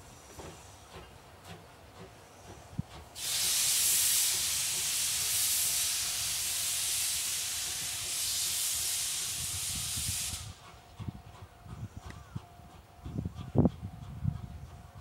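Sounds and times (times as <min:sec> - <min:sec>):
steam locomotive venting steam: 0:00.0 - 0:15.0.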